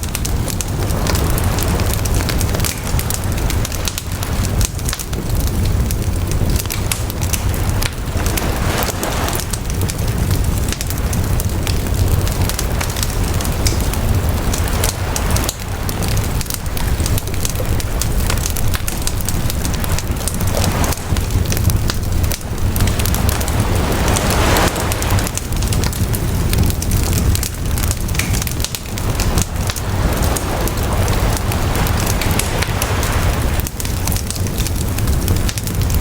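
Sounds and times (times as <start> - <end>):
campfire crackling and popping: 0.0 - 36.0
sea waves washing on shore: 0.0 - 36.0.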